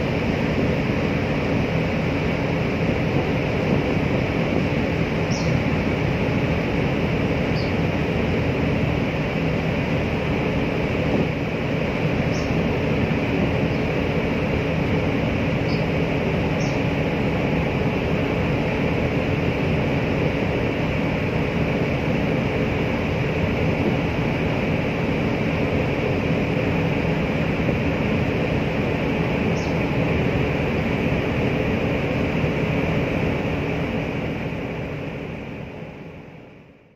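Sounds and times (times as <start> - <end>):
boat engine drone: 0.0 - 36.9
faint even hum: 0.0 - 36.9.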